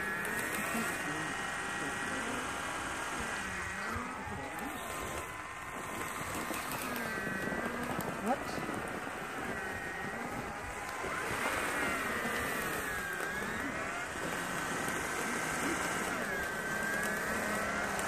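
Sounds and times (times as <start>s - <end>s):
miniature snow blower motors whining: 0.0s - 18.0s.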